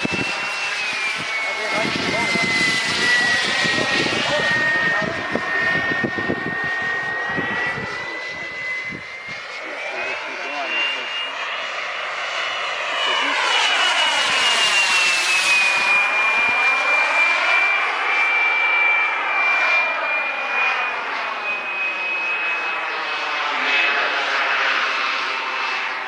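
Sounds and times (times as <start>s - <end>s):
model jet turbine whine: 0.0s - 26.0s
rushing jet noise: 0.0s - 26.0s.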